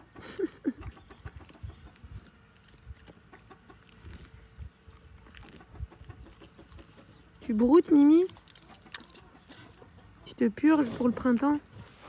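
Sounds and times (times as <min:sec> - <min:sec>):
dog chewing grass: 0:00.9 - 0:12.0.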